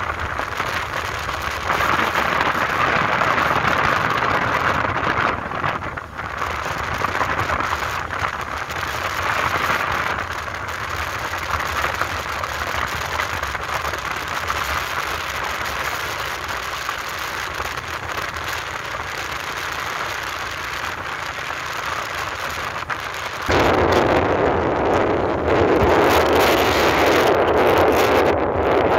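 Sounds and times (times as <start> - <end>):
motorbike riding at speed: 0.0 - 28.9.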